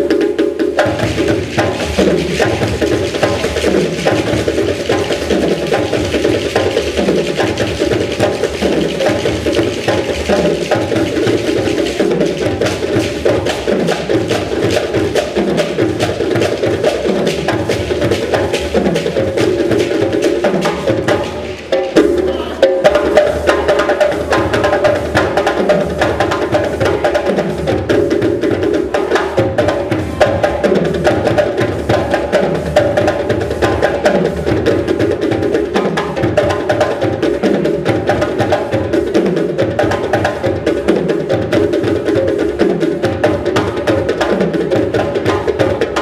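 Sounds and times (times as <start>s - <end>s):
percussion-led music: 0.0s - 46.0s.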